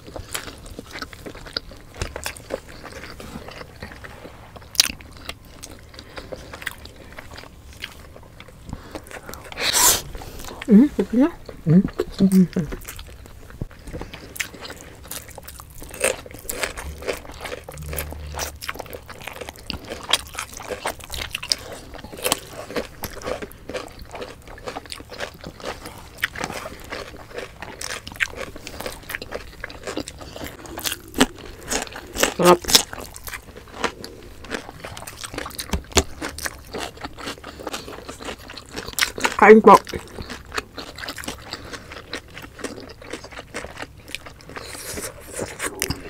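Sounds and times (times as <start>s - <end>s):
chewing and biting mouth sounds: 0.0s - 10.7s, 11.4s - 46.0s.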